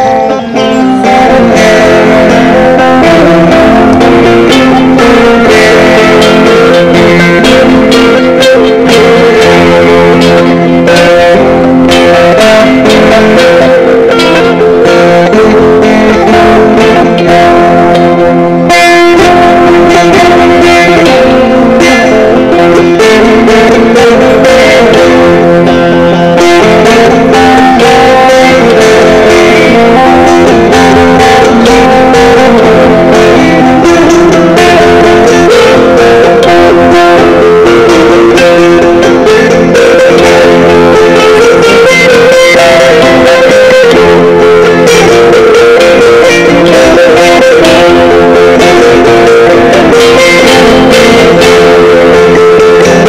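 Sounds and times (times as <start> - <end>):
plucked lute melody: 0.0 - 53.0.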